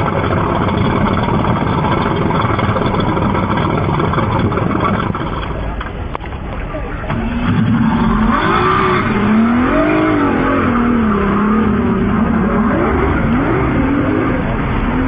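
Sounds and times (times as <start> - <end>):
outboard engines revving: 0.0 - 15.0.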